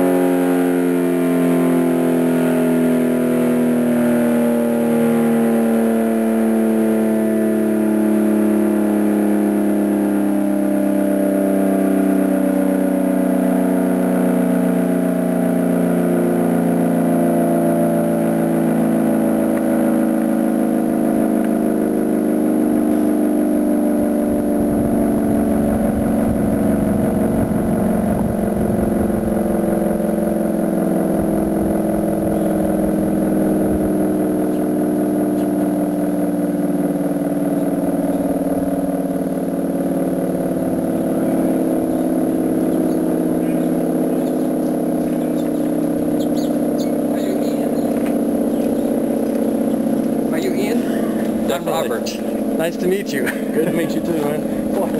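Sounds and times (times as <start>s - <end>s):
dual-tone warning siren: 0.0s - 54.9s.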